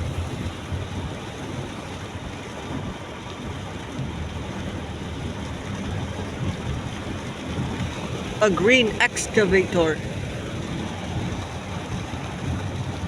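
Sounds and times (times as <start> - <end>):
car moving: 0.0 - 13.0
heavy rain: 0.0 - 13.0
low road and engine rumble: 0.0 - 13.0.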